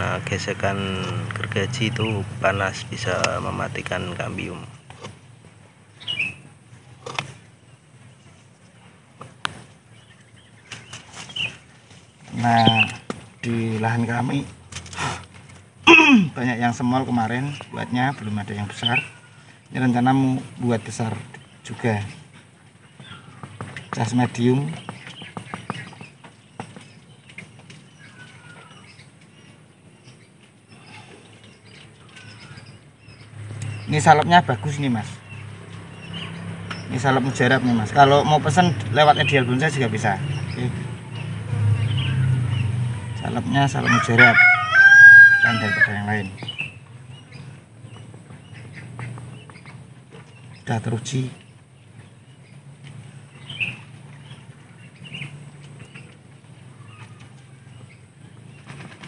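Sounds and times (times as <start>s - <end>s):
bird chirp: 0.0s - 59.0s.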